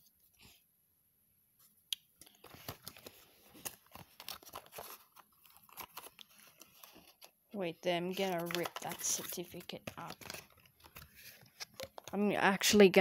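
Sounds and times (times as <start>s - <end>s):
paper and cardboard rustling: 1.6s - 12.2s.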